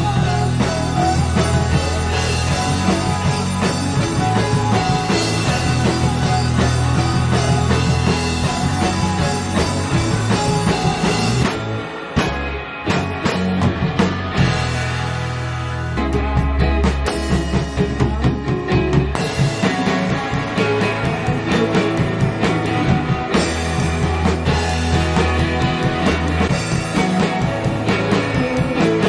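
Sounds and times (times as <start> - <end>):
rock band playing live: 0.0 - 29.0.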